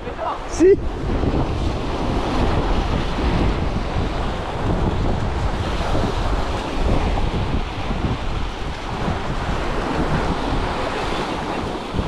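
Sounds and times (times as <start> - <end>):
waves breaking on rocks: 0.0 - 12.0
wind buffeting microphone: 0.0 - 12.0.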